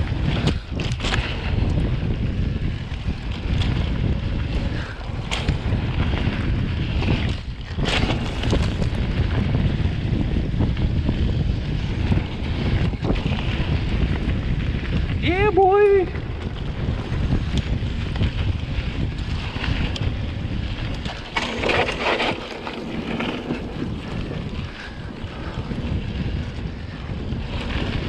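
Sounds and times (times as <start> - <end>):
bike rattling on trail: 0.0 - 28.0
wind on microphone: 0.0 - 28.0.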